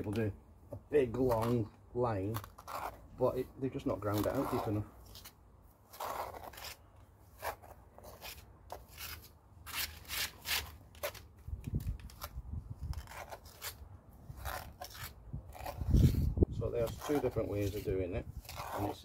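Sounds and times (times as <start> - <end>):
trowel scraping mortar: 1.0 - 11.2, 12.0 - 19.0.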